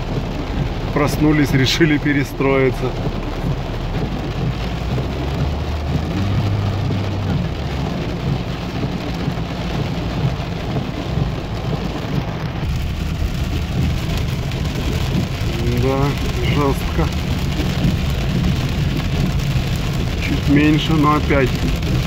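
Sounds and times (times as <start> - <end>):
heavy rain on car roof: 0.0 - 22.0
moving car rumble: 0.0 - 22.0.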